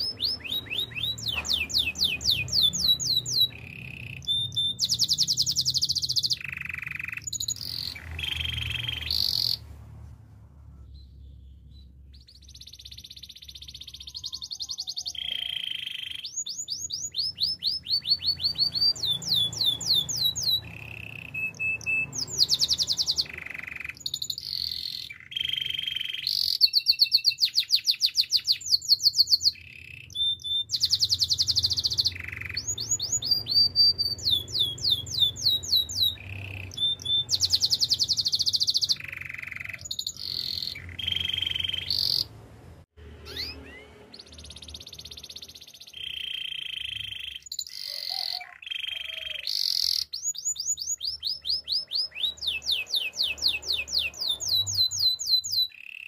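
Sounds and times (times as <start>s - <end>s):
canary singing trills: 0.0s - 10.0s, 10.8s - 56.0s.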